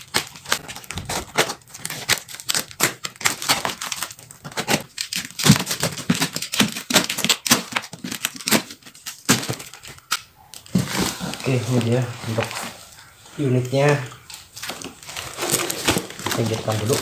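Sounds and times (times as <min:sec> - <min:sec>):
packing tape and cardboard tearing: 0:00.0 - 0:13.1, 0:13.8 - 0:17.0.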